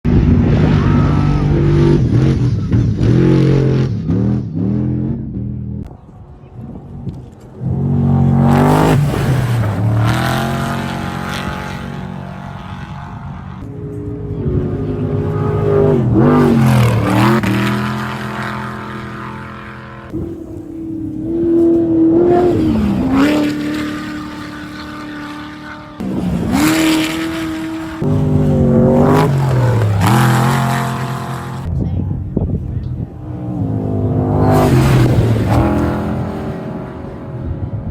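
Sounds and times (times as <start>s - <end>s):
race vehicle engines revving past: 0.1s - 37.9s.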